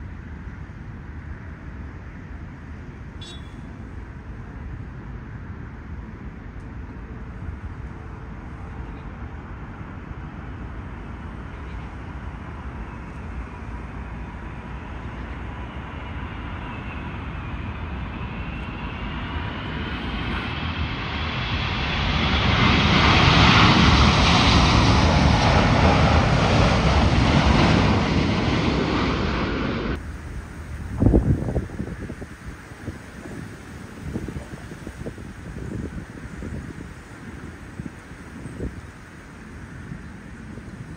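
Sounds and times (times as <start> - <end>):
jet engine rumble with whine: 0.0 - 40.9.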